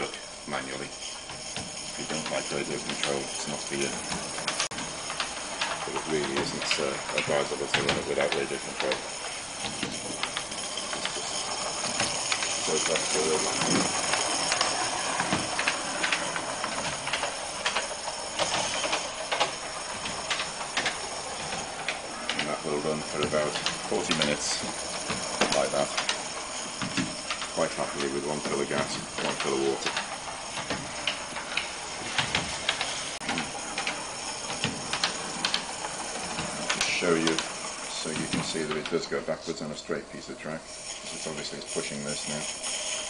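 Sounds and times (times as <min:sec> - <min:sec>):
steam locomotive hissing: 0:00.0 - 0:43.0.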